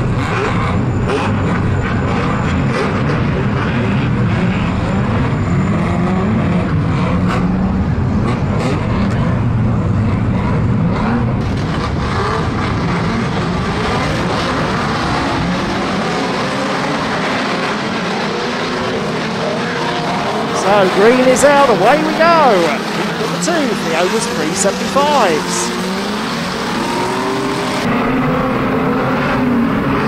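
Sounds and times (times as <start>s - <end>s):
racing car engines revving: 0.0s - 30.0s.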